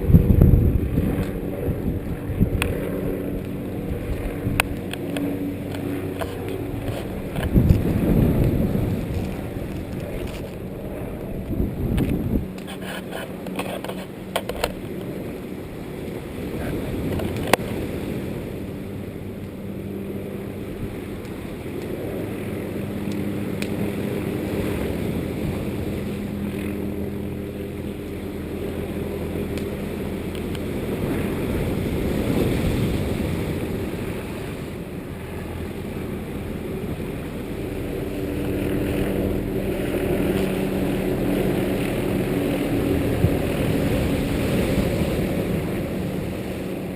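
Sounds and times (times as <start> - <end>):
wind noise: 0.0 - 18.9, 21.8 - 46.9
engine drone: 0.0 - 46.9.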